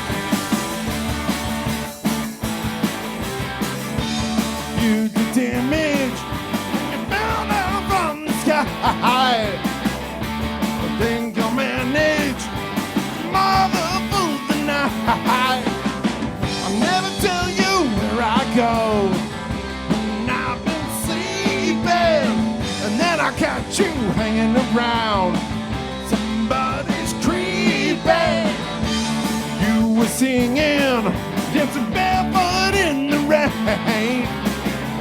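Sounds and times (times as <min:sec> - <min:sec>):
drums keeping steady beat: 0:00.0 - 0:35.0
pop band playing live: 0:00.0 - 0:35.0.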